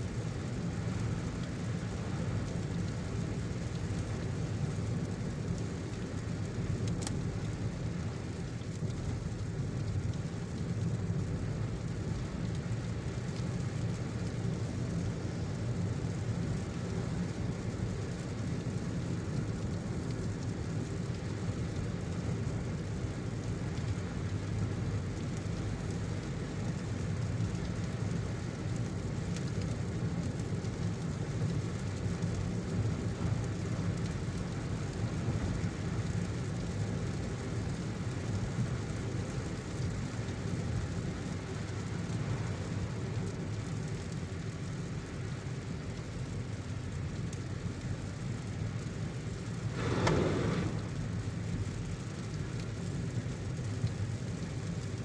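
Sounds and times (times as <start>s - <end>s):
road and engine rumble: 0.0s - 55.0s
rain hissing: 0.1s - 55.0s.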